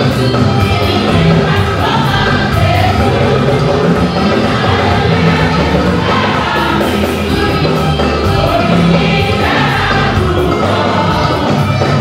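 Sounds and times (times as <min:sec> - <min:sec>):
congregation singing a gospel song: 0:00.0 - 0:12.0.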